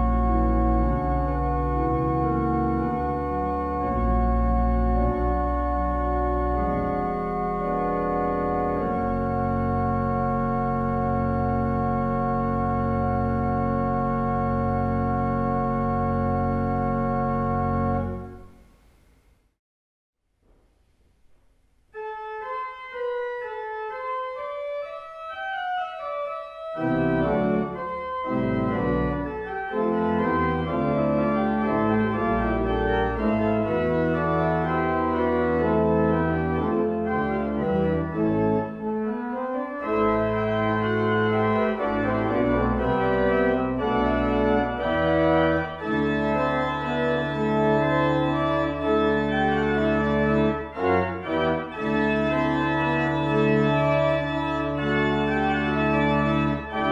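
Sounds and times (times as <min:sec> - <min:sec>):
full organ with deep pedal bass: 0:00.0 - 0:18.5, 0:22.0 - 0:56.9
pipe organ melody: 0:00.0 - 0:18.5, 0:21.9 - 0:56.9.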